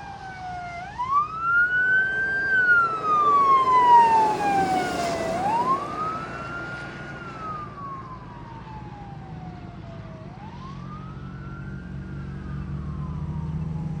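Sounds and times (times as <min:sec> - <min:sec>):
emergency siren wailing: 0:00.0 - 0:14.0
low engine rumble: 0:00.0 - 0:14.0.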